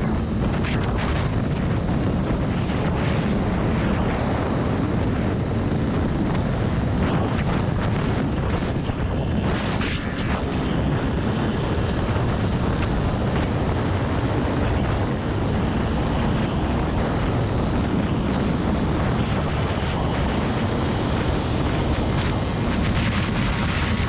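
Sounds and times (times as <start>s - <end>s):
off-road vehicle engine: 0.0s - 24.0s
wind buffeting microphone: 0.0s - 24.0s.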